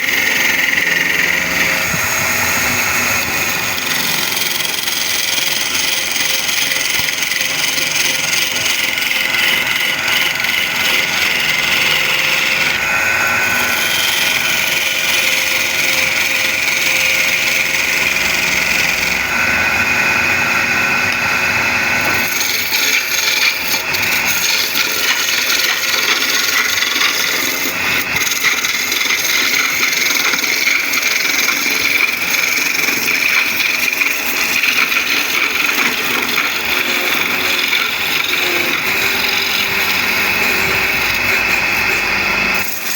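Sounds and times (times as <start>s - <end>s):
lathe motor hum: 0.0s - 42.9s
tool scraping spinning wood: 0.0s - 42.9s.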